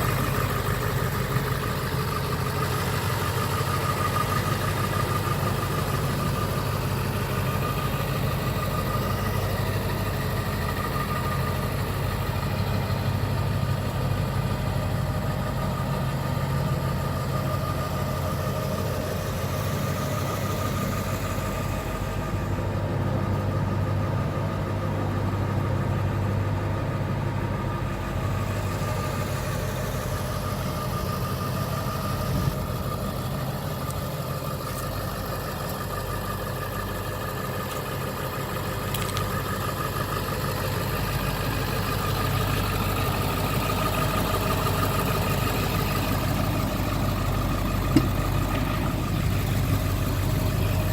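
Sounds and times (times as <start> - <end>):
diesel engine idling: 0.0 - 50.9
high turbo whine: 0.0 - 50.9.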